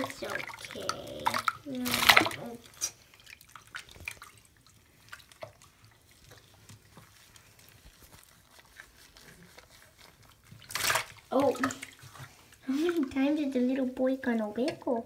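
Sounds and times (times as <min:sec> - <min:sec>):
water splashing and dripping: 0:00.0 - 0:13.8.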